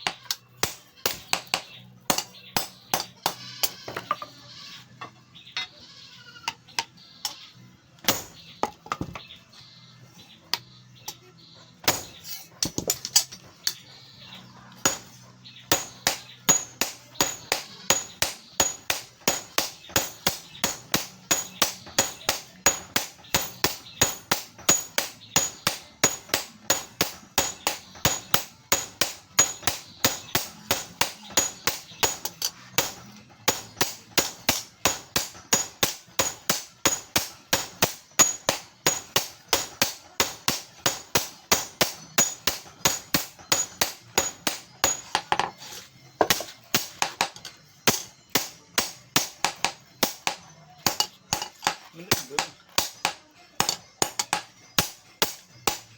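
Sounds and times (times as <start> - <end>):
hammer striking metal on anvil: 0.0 - 4.2, 8.1 - 8.5, 11.8 - 13.8, 14.8 - 45.6, 46.2 - 55.9.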